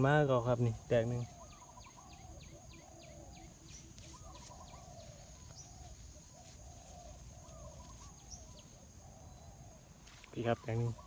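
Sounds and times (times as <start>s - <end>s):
high insect whine: 0.0s - 11.0s.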